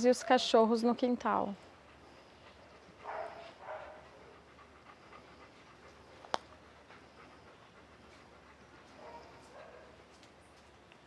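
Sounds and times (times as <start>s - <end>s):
dog panting: 0.0s - 10.6s.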